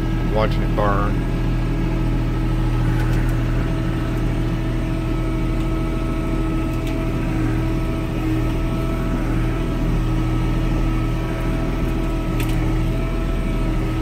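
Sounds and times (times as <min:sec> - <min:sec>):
tractor diesel engine running: 0:00.0 - 0:14.0
loader pushing into brush pile: 0:02.7 - 0:14.0.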